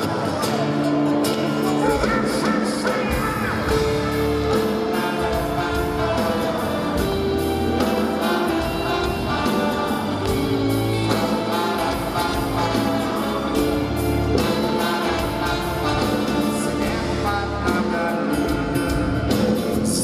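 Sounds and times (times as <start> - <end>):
choir-like voices: 0.0 - 18.6
live band over concert speakers: 0.0 - 20.0.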